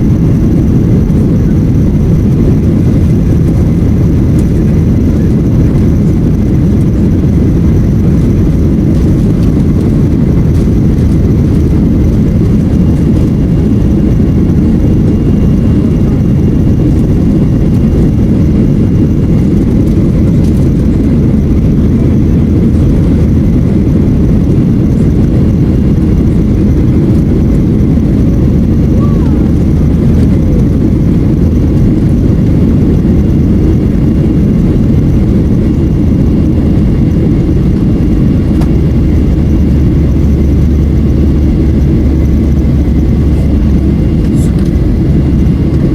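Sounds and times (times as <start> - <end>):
jet airliner cabin rumble: 0.0 - 45.9.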